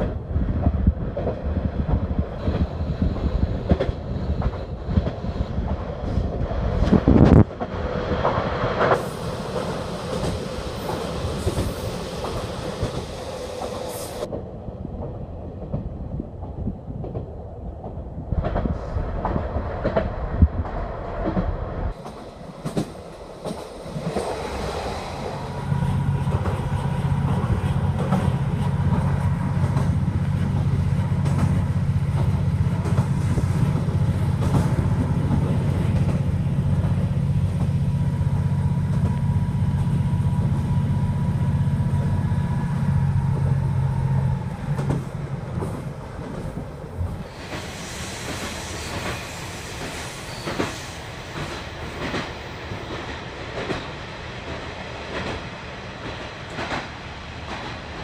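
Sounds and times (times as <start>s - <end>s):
train wheels clicking over rail joints: 0.0s - 14.4s, 16.4s - 58.0s
train running rumble: 0.0s - 58.0s.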